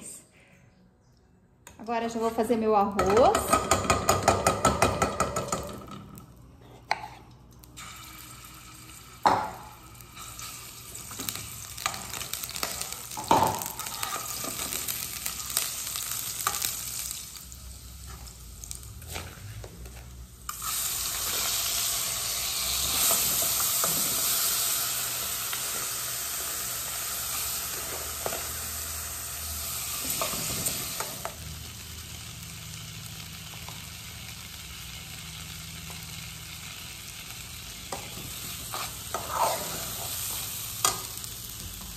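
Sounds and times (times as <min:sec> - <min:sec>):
rice sizzling in hot pot: 0:07.0 - 0:41.9.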